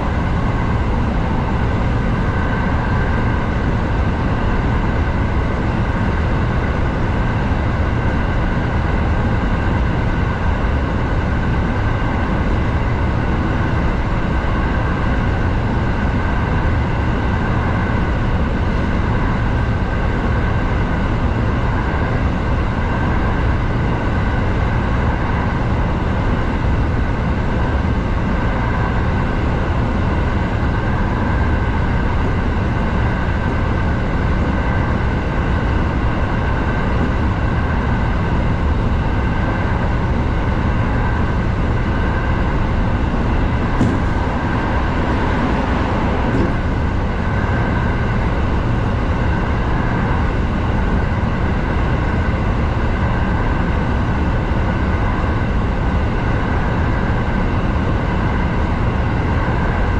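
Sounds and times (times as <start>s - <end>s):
steady train whine: 0.0s - 59.9s
train wheels rumbling on rails: 0.0s - 59.9s.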